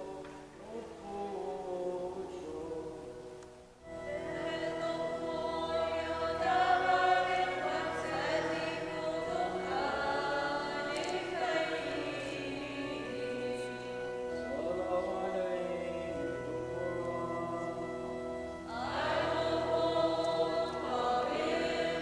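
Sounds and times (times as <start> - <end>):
sung liturgical chant: 0.0 - 22.0.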